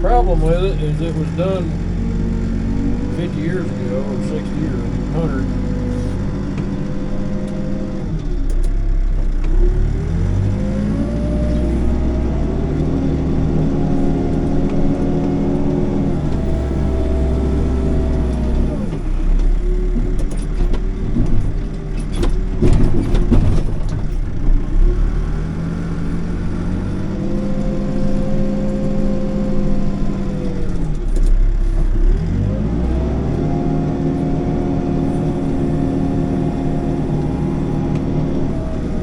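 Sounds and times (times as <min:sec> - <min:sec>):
backhoe diesel engine revving: 0:00.0 - 0:39.0.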